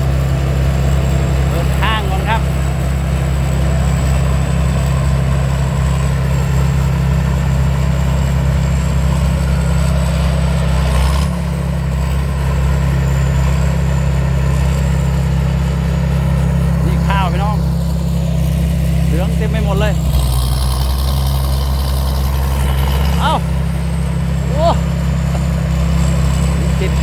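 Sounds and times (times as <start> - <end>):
high steady whine: 0.0 - 10.8, 11.4 - 27.0
combine harvester drone: 0.0 - 27.0.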